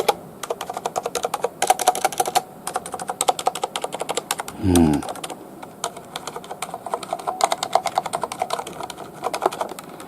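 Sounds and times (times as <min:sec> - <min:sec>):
soft mechanical keyboard typing: 0:00.0 - 0:10.0.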